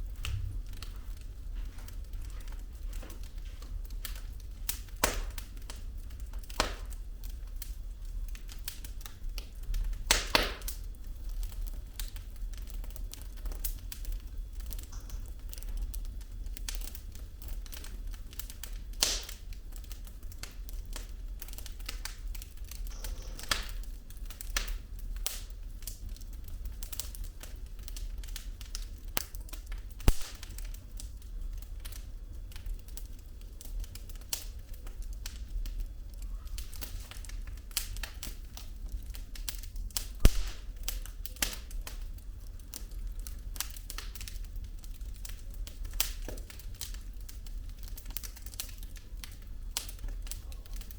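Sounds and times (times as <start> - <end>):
burning logs crackling: 0.0 - 50.9
low rumble of flames: 0.0 - 50.9
sharp pops from fire: 0.0 - 50.9.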